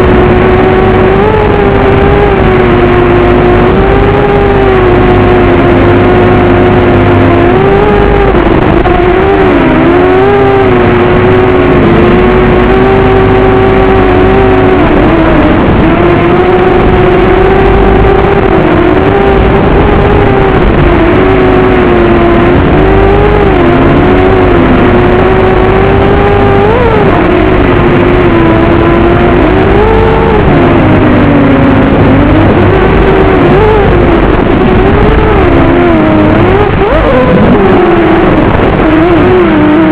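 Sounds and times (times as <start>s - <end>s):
quadcopter motors whining: 0.0s - 39.9s
rough low rumble: 0.0s - 39.9s.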